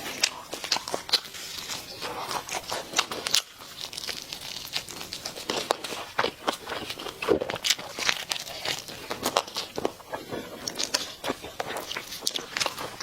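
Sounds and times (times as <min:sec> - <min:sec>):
chewing crispy fried chicken: 0:00.0 - 0:13.0.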